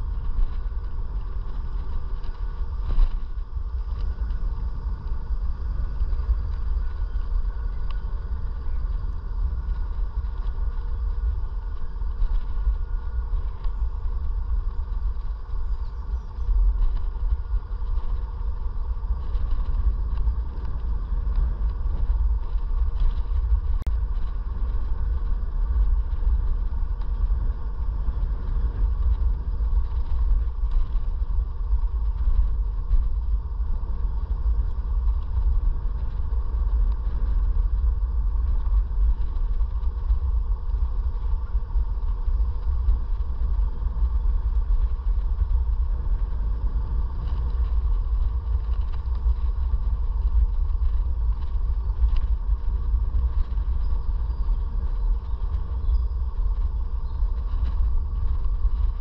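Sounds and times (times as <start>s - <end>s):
wind and road rumble: 0.0s - 59.0s.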